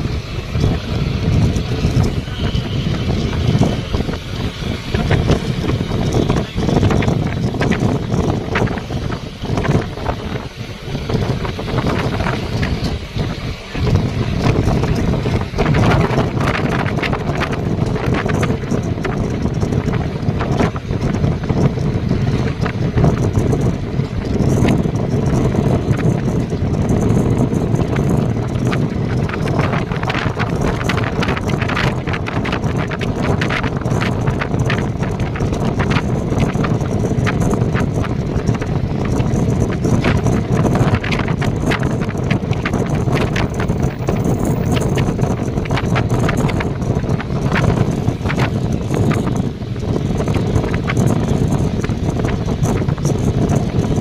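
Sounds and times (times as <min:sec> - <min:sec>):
small rattles and knocks: 0:00.0 - 0:54.0
vehicle rumble: 0:00.0 - 0:54.0
wind on microphone: 0:00.0 - 0:54.0.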